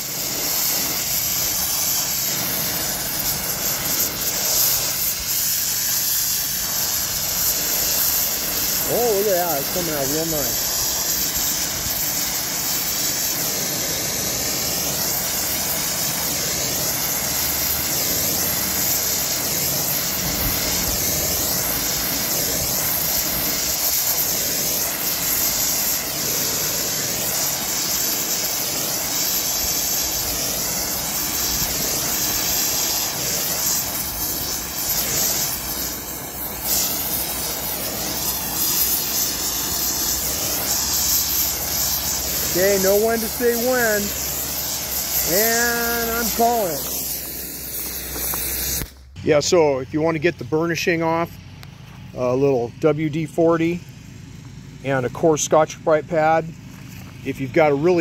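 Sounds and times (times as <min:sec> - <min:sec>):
welding torch flame hissing: 0:00.0 - 0:58.0.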